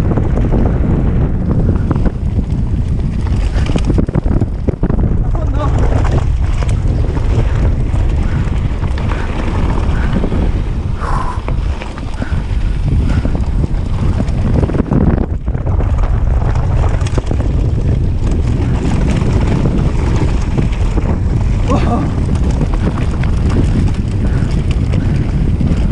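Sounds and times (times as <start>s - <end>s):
bike knocks and rattles: 0.0s - 25.9s
wind buffeting microphone: 0.0s - 25.9s.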